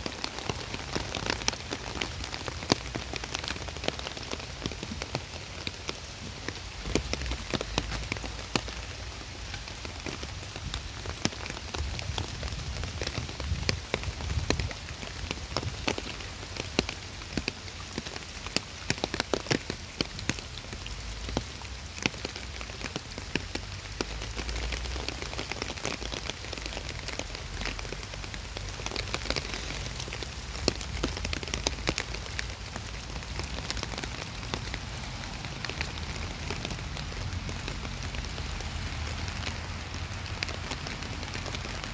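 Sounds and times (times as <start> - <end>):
rain drops ticking: 0.0 - 41.9
steady rain falling: 0.0 - 41.9.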